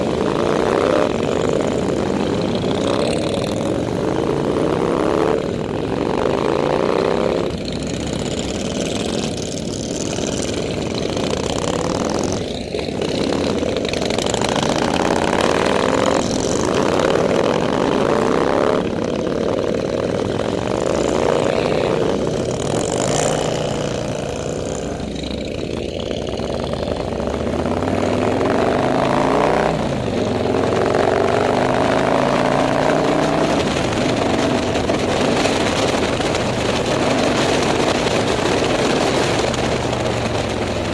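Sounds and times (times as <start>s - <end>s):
motorcycle engines revving: 0.0s - 40.9s.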